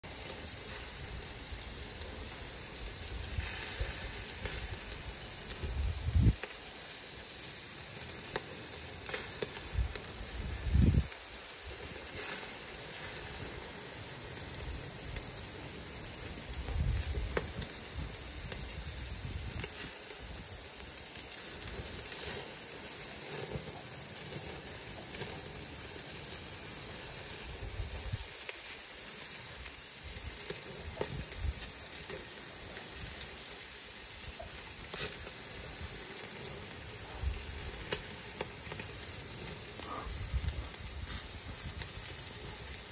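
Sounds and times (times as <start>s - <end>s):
meat sizzling on a grill: 0.0s - 42.9s.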